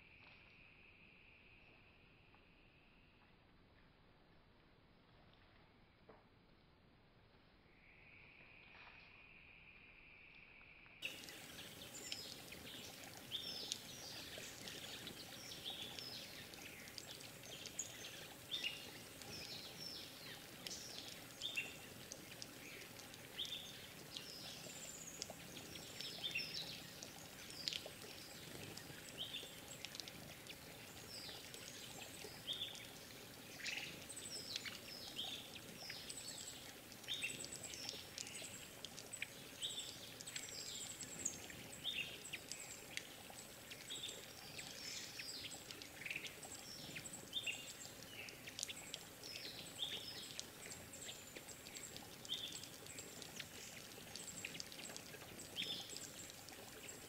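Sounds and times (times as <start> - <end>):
running water hiss: 11.0 - 57.0
small birds chirping: 11.0 - 57.0.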